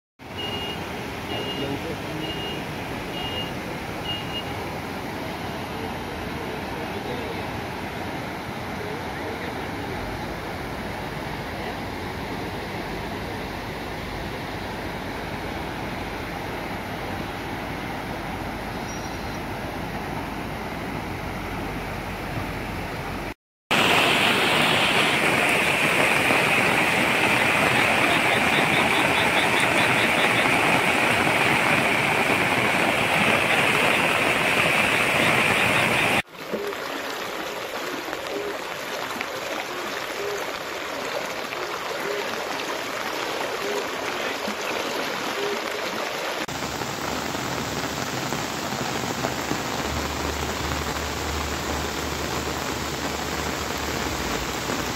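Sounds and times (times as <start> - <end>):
floodwater rushing: 0.2 - 54.9
rain hiss: 0.2 - 54.9.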